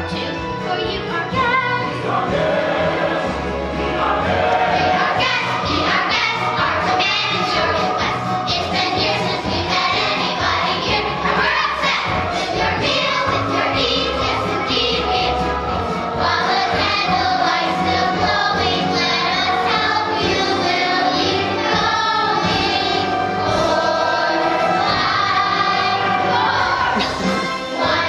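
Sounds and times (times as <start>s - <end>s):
instrumental accompaniment: 0.0s - 28.0s
young voices singing together: 0.0s - 28.0s.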